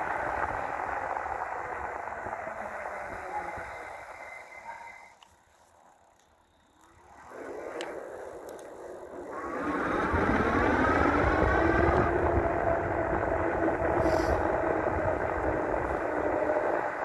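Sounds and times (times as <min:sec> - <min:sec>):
electric motor whining: 0:00.0 - 0:05.3, 0:07.0 - 0:17.0
road rumble: 0:00.0 - 0:17.0
wind: 0:00.0 - 0:17.0.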